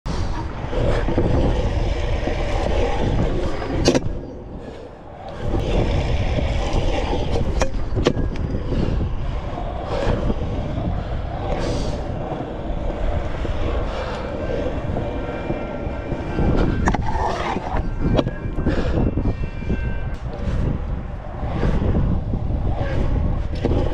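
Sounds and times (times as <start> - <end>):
scooter wheels rolling on concrete: 0.1 - 23.9.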